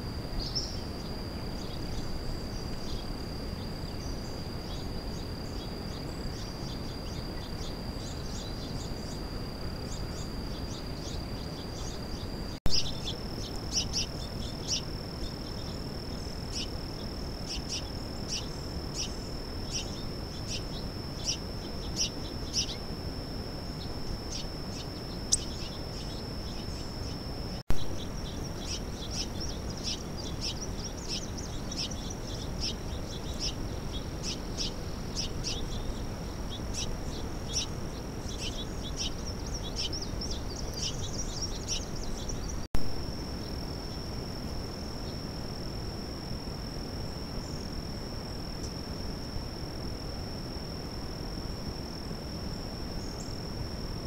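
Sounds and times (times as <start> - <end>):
small birds chirping: 0.0 - 42.7, 43.3 - 53.8
high-pitched whine: 0.0 - 54.0.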